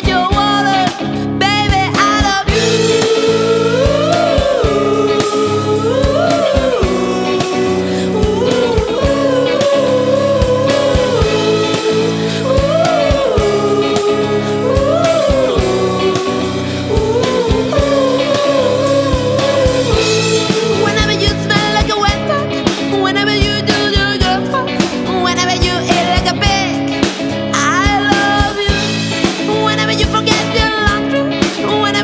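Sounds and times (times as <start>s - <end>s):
punk rock song: 0.0s - 32.0s.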